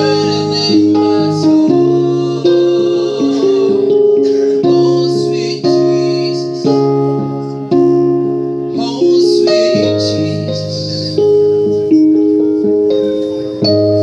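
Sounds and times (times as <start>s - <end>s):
electric keyboard chords: 0.0s - 14.0s.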